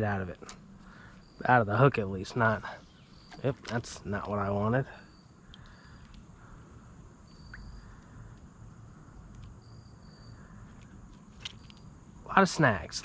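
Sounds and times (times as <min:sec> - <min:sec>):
high insect trills: 0:00.0 - 0:13.0
low steady hiss and rumble: 0:00.0 - 0:13.0.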